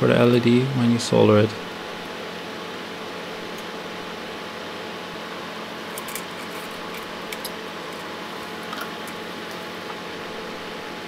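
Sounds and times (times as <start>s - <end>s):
fan-like hum and hiss: 0.0s - 11.0s.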